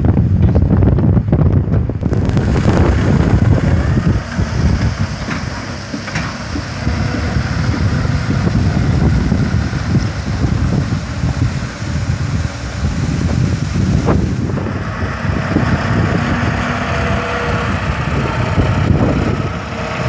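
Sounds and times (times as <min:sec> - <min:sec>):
wind on microphone: 0:00.0 - 0:20.0
tractor engine running: 0:00.2 - 0:20.0
water spraying onto road: 0:02.0 - 0:20.0.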